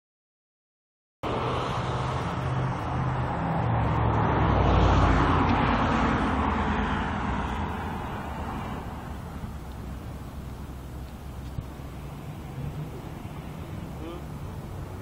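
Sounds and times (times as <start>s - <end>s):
vehicle passing by: 1.2s - 15.0s.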